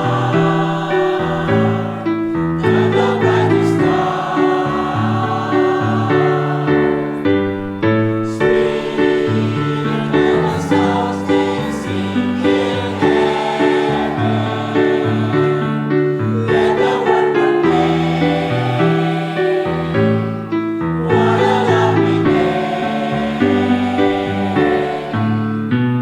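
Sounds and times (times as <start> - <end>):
choir singing a hymn: 0.0 - 26.0.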